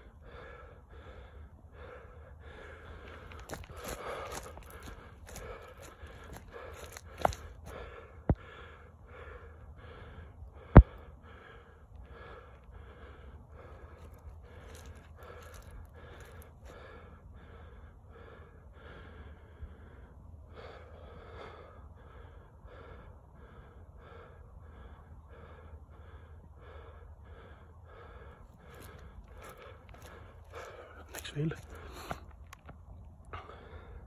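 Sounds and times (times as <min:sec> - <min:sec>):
person breathing hard: 0:00.0 - 0:34.0
steady low rumble: 0:00.0 - 0:34.0.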